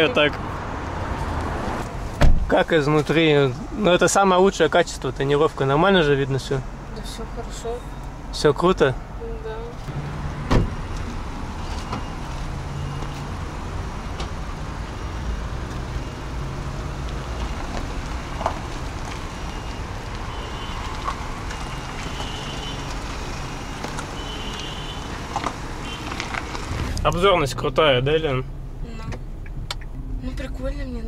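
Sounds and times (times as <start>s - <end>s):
car engine humming: 0.0s - 31.0s.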